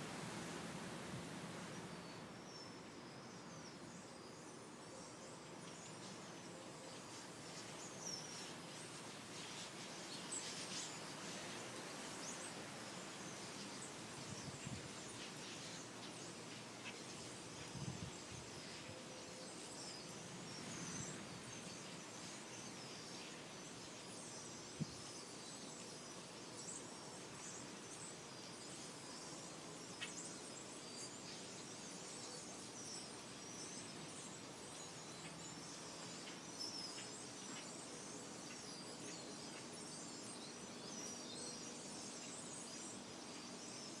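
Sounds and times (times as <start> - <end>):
background hiss: 0.0 - 44.0
small birds chirping: 6.9 - 44.0.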